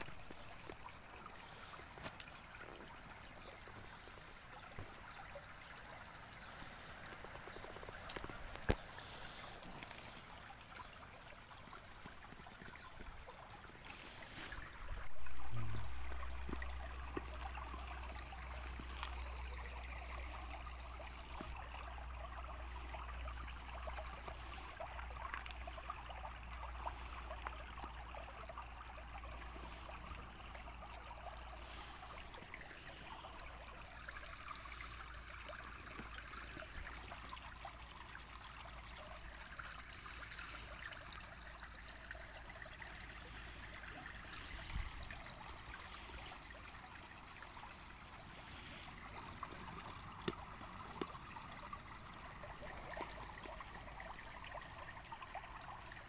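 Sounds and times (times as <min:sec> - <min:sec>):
stream water trickling over stones: 0:00.0 - 0:56.0.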